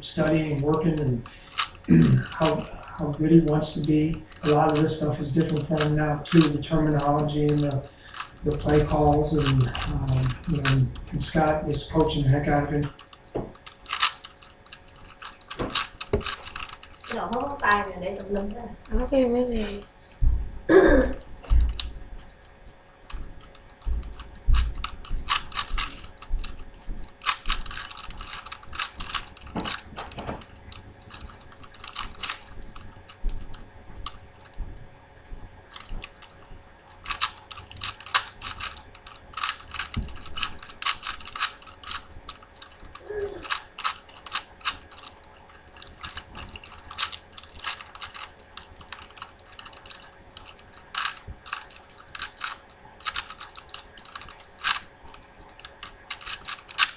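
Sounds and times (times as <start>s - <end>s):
plastic puzzle cube clicking: 0.2s - 17.8s, 21.2s - 22.0s, 23.1s - 34.6s, 35.7s - 56.9s.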